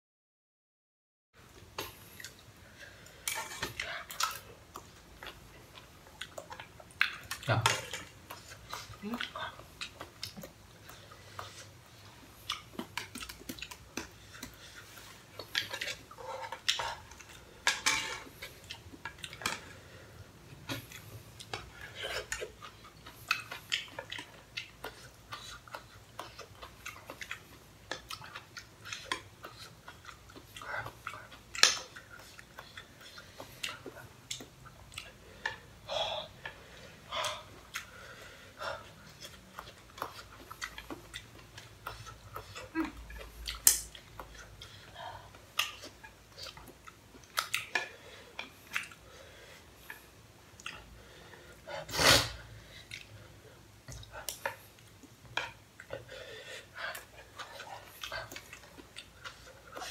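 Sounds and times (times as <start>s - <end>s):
chewing: 1.5s - 51.7s, 52.6s - 59.9s.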